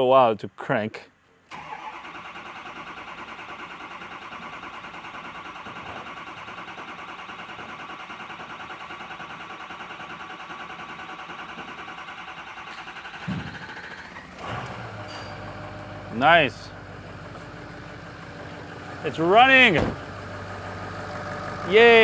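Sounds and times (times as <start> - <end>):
engine catching with a burst: 1.5 - 22.0
starter cranking diesel engine: 1.5 - 22.0.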